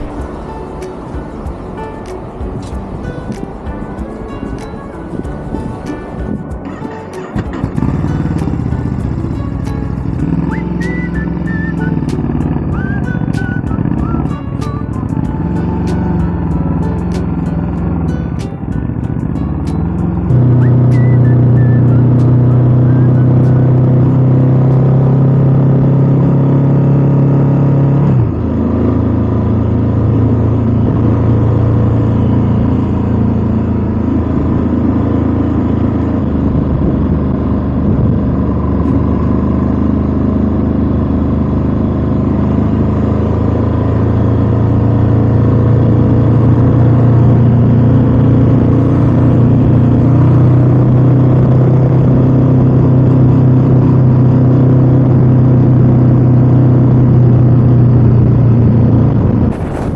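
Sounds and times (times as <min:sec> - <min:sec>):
road and wind noise: 0:00.0 - 0:59.9
motorcycle engine running: 0:07.3 - 0:59.9.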